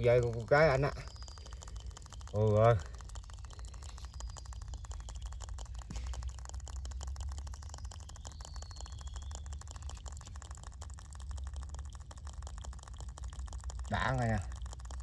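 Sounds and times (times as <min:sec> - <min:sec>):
faint high chirps: 0:00.0 - 0:14.7
fast crackling clicks: 0:00.0 - 0:15.0.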